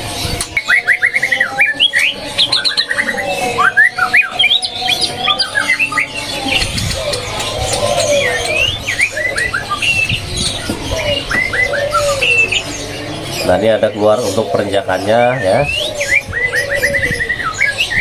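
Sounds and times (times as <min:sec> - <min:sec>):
bird singing rising chirps: 0:00.0 - 0:18.0.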